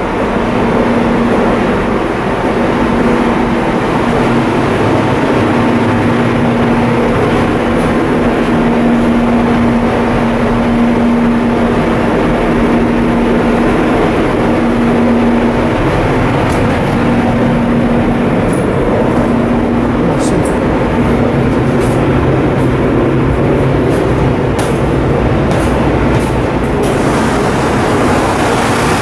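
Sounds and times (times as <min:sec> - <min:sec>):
ship diesel machinery drone: 0:00.0 - 0:29.0.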